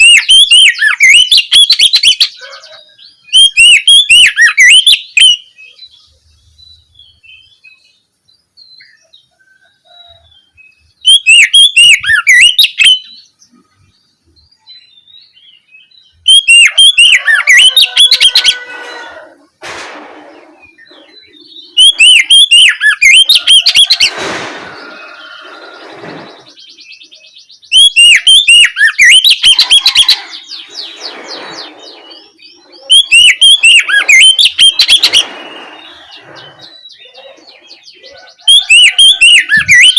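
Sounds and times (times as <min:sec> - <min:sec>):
bird singing warbling phrases: 0:00.0 - 0:19.6, 0:20.2 - 0:39.9.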